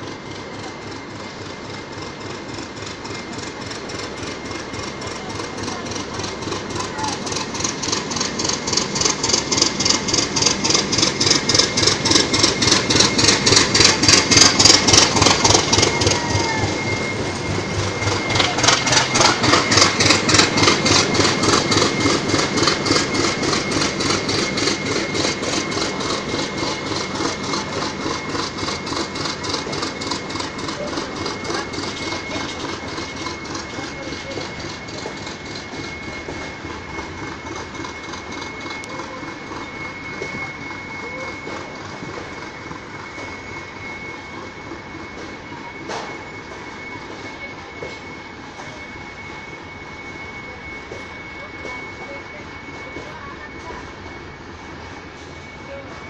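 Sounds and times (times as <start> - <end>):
train wagons rolling: 0.0 - 49.0
diesel locomotive engine beat: 0.0 - 56.0
thin high whine: 4.1 - 56.0.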